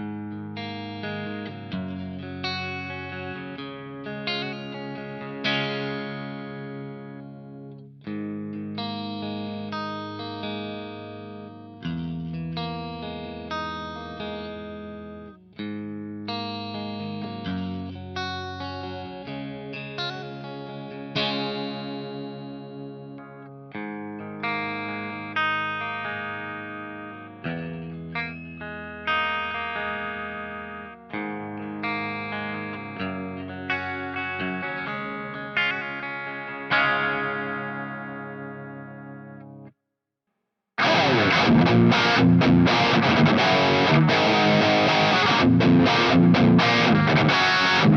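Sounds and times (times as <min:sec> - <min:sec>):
electric guitar ringing chords: 0:00.0 - 0:39.7, 0:40.8 - 0:47.9.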